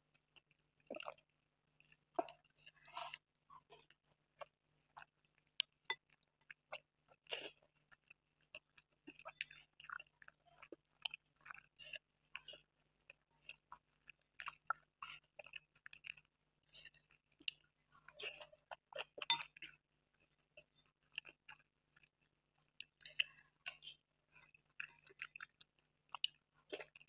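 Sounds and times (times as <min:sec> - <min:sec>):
wet chewing and lip smacks: 0:00.2 - 0:27.0.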